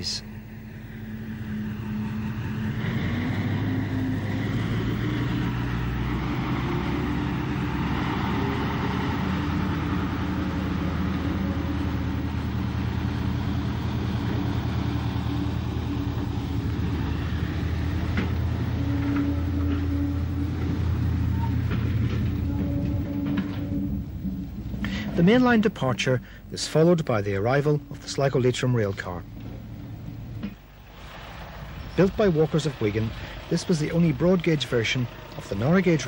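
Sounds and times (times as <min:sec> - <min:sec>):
diesel locomotive engine: 0:00.0 - 0:36.0.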